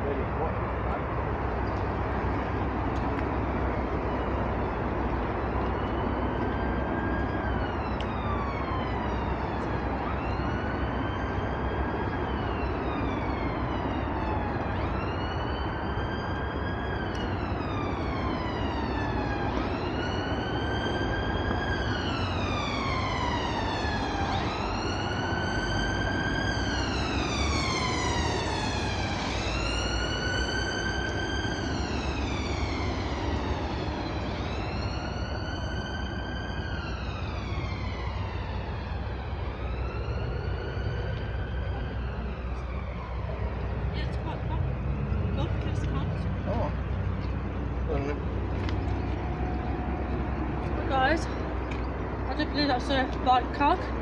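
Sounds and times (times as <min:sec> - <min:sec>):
steady background noise: 0:00.0 - 0:54.0
siren wailing: 0:02.1 - 0:54.0.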